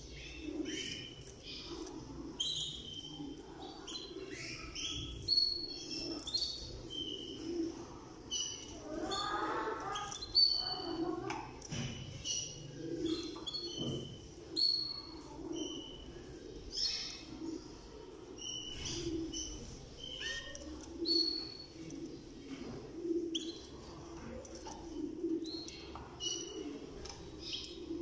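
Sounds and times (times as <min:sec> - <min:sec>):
canaries chirping: 0:00.0 - 0:28.0.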